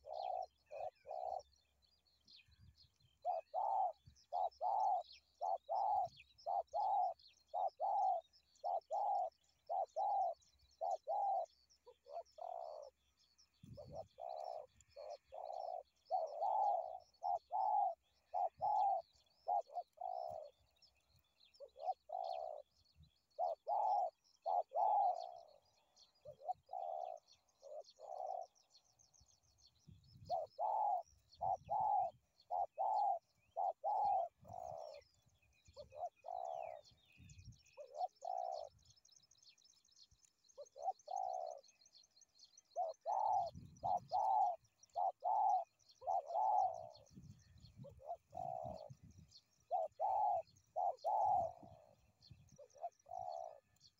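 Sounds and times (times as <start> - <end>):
doves cooing: 0.0 - 1.6, 2.5 - 29.5, 30.1 - 39.0, 40.5 - 53.9
small birds chirping: 0.0 - 53.9.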